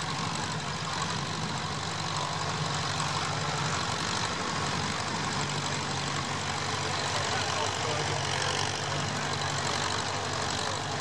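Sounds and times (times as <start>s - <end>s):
tractor engine running under load: 0.0s - 11.0s.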